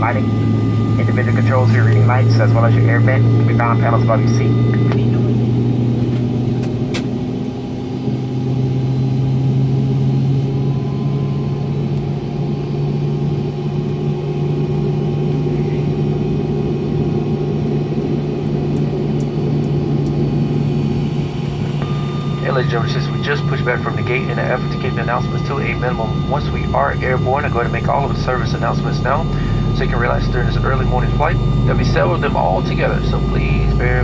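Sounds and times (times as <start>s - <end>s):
jet airliner cabin drone: 0.0s - 34.0s.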